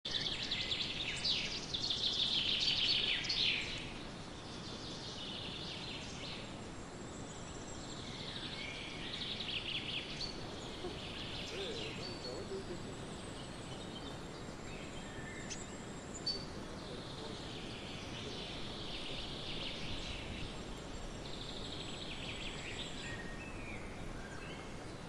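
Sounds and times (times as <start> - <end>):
outdoor background hiss: 0.1 - 25.0
small birds trilling and chirping: 0.1 - 25.0.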